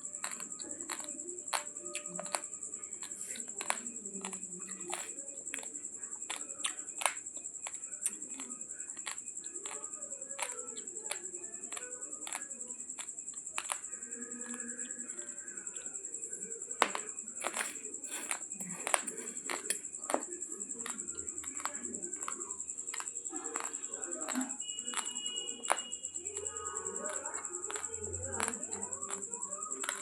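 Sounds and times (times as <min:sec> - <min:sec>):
raw rice crunching while chewed: 0:00.0 - 0:15.9, 0:16.8 - 0:30.0.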